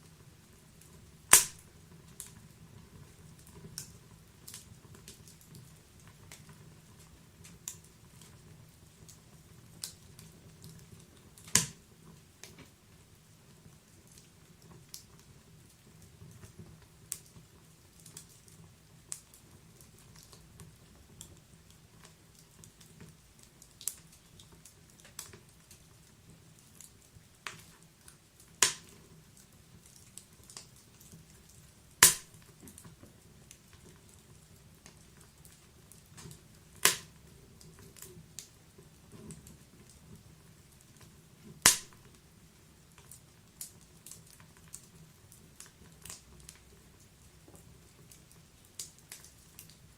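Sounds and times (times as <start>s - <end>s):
fire popping and snapping: 0.0s - 49.9s
wood fire hissing: 0.0s - 49.9s.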